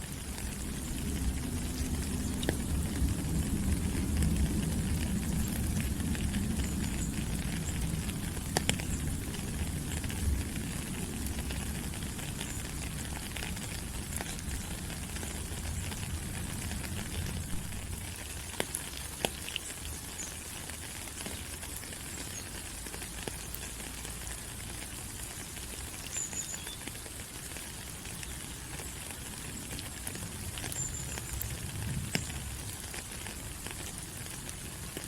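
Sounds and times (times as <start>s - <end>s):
rain on leaves: 0.0s - 35.0s
water drips: 0.0s - 35.0s.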